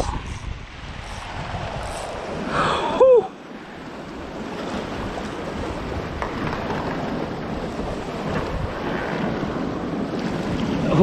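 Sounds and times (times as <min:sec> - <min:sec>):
surf washing against rocks: 0:00.0 - 0:11.0
wind buffeting microphone: 0:00.0 - 0:11.0.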